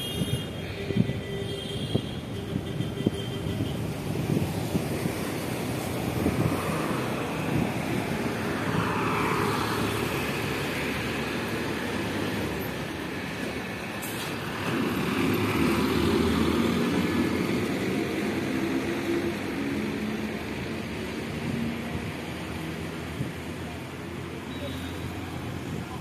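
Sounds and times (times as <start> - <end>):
tyres on the road: 0.0 - 26.0.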